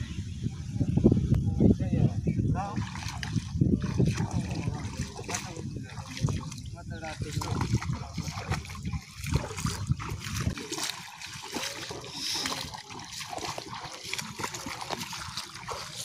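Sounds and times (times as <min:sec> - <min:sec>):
feet wading through water: 0:02.7 - 0:16.0.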